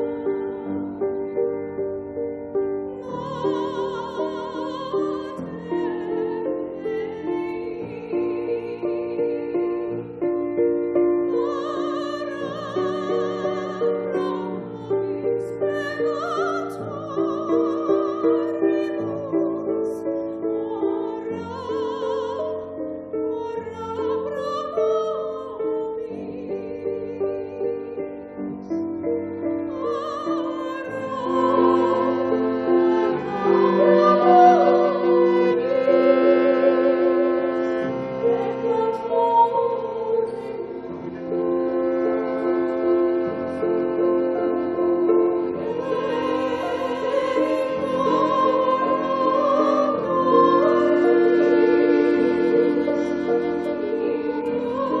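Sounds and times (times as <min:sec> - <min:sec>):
woman singing operatically: 0:03.0 - 0:10.0, 0:11.3 - 0:28.1, 0:29.7 - 0:37.6, 0:38.2 - 0:40.9, 0:44.8 - 0:55.0.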